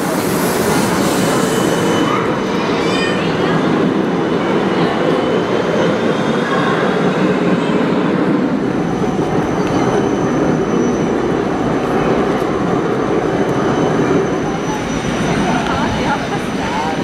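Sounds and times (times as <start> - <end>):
tram rolling on rails: 0.0 - 17.0.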